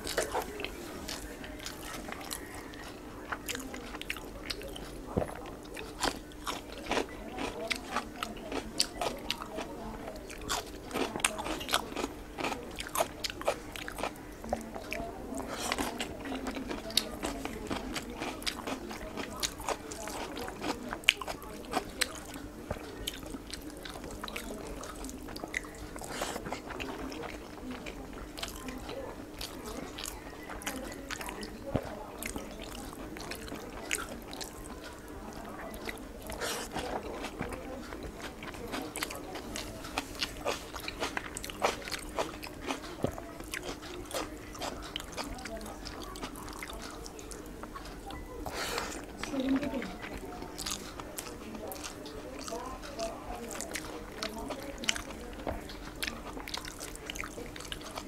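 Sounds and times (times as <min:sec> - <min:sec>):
eating rice by hand: 0:00.0 - 0:58.0
wet chewing: 0:00.0 - 0:58.0.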